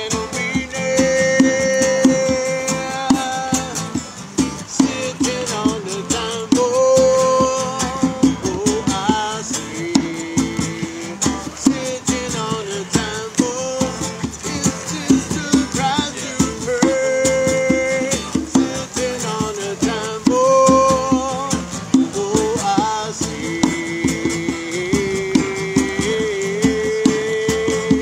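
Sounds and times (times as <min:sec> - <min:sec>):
hand drum percussion: 0:00.0 - 0:28.0
man singing: 0:00.0 - 0:28.0
strummed acoustic guitar: 0:00.0 - 0:28.0.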